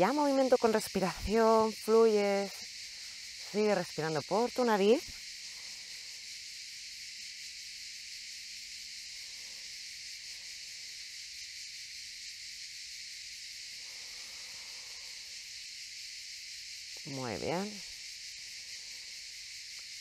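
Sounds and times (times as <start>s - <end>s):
cicadas chirring: 0.0s - 20.0s.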